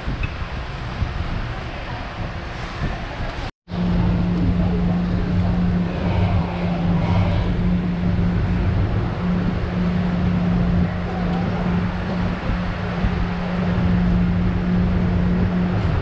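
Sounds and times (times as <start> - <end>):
continuous noisy din: 0.0 - 16.0
steady low hum: 0.0 - 16.0.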